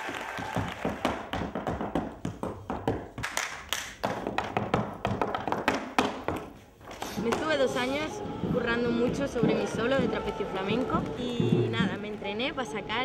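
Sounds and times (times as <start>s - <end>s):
flamenco footwork taps and thumps: 0.3s - 12.2s.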